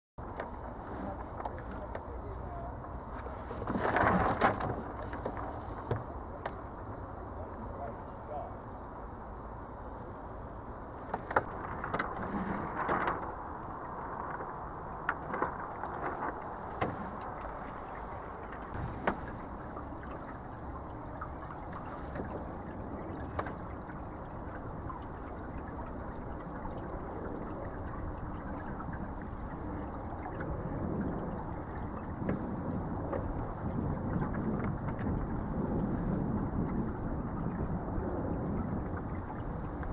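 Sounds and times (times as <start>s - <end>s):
water lapping against hull: 0.2s - 9.3s, 10.5s - 39.9s.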